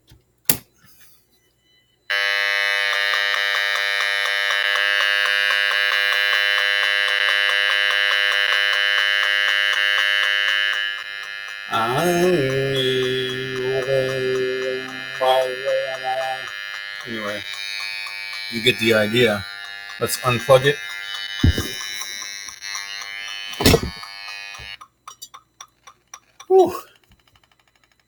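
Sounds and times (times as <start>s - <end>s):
detector speaker buzzing: 2.1s - 25.0s.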